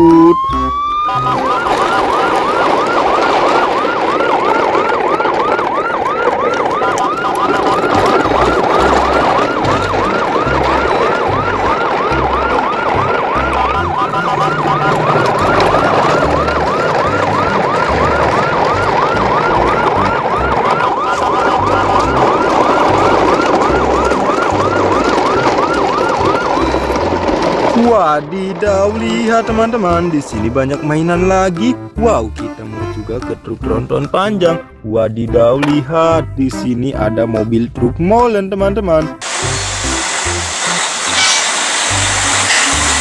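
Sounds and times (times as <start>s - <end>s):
electronic yelp siren: 0.0s - 31.0s, 39.2s - 43.0s.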